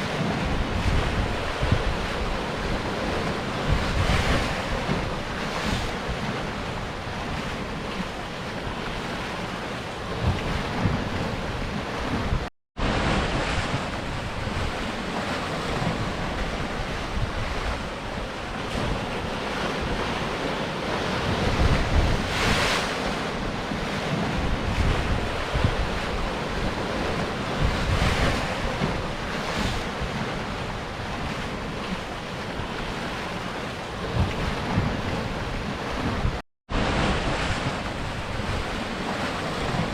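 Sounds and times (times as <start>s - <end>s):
sea surf breaking against rocks: 0.0s - 39.9s
wind buffeting microphone: 0.0s - 39.9s.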